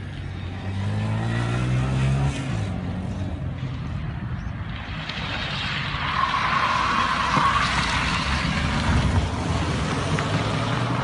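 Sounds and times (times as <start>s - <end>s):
car engine under throttle: 0.0s - 11.0s
tyres scraping on asphalt: 0.7s - 11.0s.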